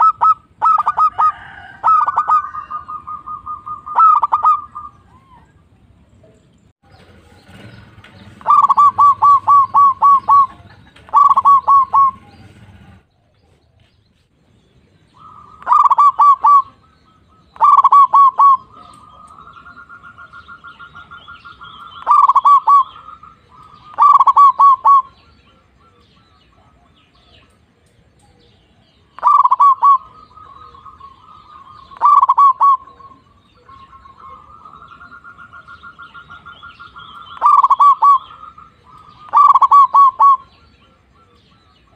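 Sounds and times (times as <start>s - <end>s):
dove staccato cooing: 0.0s - 5.6s, 7.2s - 13.6s, 15.2s - 41.9s
dove rolling trills: 0.0s - 5.8s, 6.9s - 13.6s, 14.9s - 41.9s.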